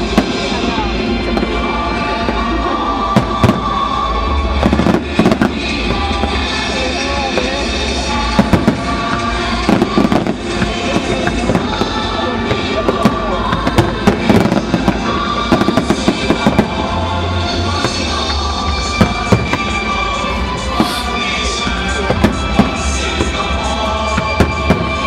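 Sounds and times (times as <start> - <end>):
fireworks bangs and crackles: 0.0 - 25.0
music soundtrack: 0.0 - 25.0.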